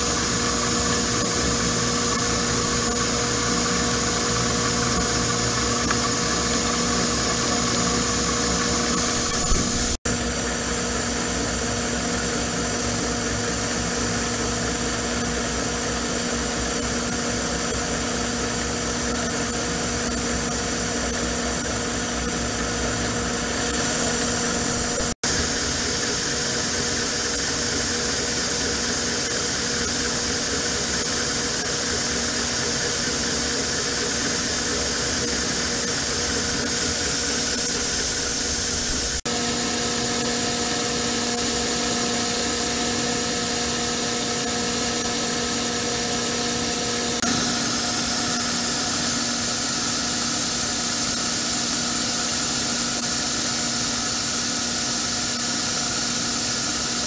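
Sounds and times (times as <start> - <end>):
milling machine humming: 0.0 - 57.0
mist coolant hissing: 0.0 - 57.0.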